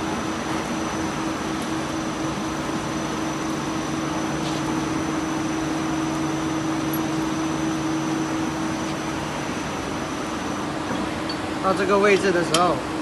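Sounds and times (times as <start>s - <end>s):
electric motor hum: 0.0s - 11.2s.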